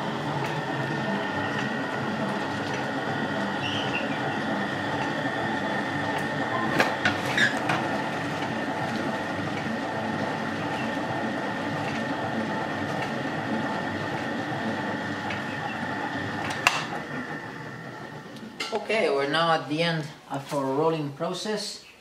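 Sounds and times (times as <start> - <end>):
machine mechanical rumble: 0.0 - 18.9.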